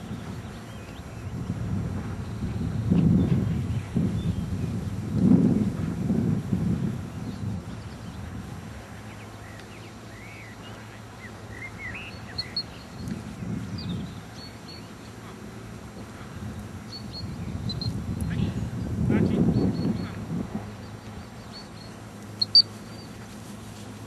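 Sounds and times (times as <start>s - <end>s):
small birds chirping: 0.0s - 4.6s, 7.2s - 23.8s
wind rumble: 0.0s - 24.0s.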